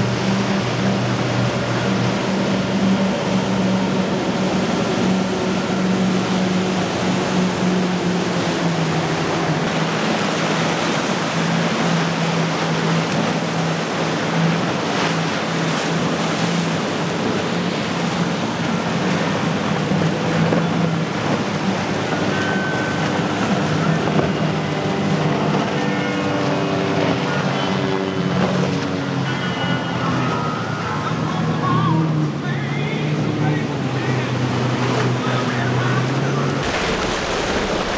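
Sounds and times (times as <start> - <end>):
hulls rushing through waves: 0.0 - 37.9
outboard motors droning: 0.0 - 37.9.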